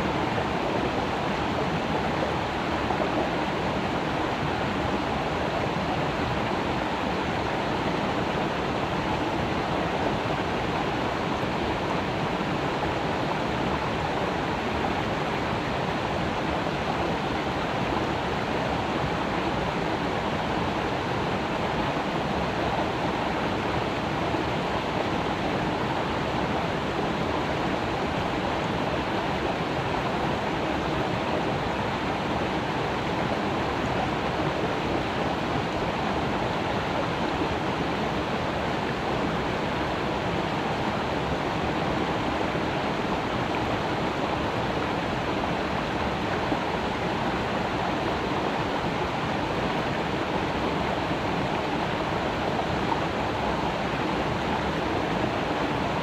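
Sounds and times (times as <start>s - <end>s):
creek water flowing over rocks: 0.0s - 56.0s.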